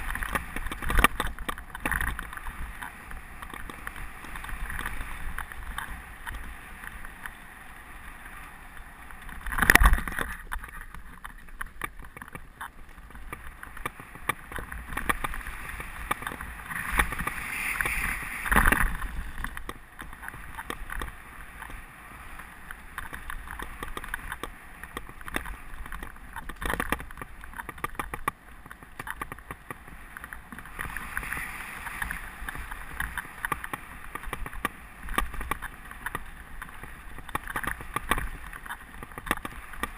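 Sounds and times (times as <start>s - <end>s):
bike rattling: 0.0s - 39.9s
bike tyres rolling over dirt: 0.0s - 39.9s.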